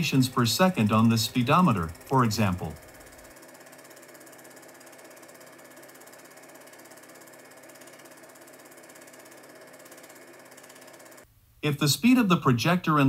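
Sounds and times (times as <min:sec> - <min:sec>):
film projector mechanical clatter: 0:00.0 - 0:11.3
faint motor hum: 0:00.0 - 0:11.6.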